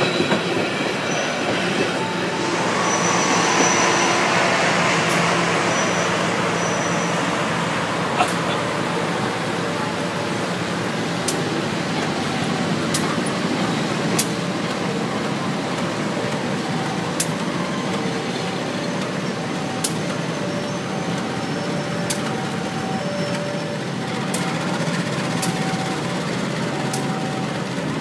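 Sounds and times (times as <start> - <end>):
train rumbling past: 0.0 - 28.0.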